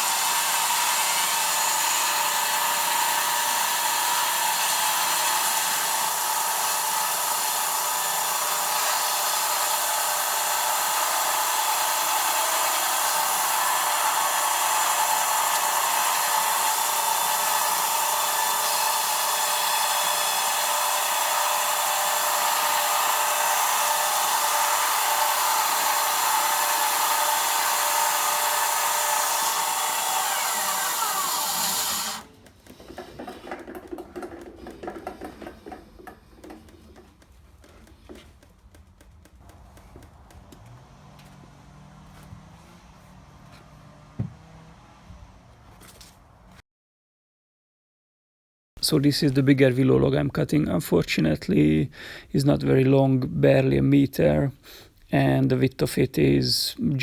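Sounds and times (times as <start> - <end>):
sawmill cutting through log: 0.0 - 46.6.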